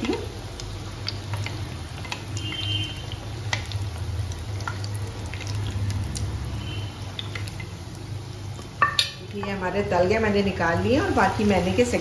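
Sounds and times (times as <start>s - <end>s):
oil bubbling and crackling: 0.0s - 12.0s.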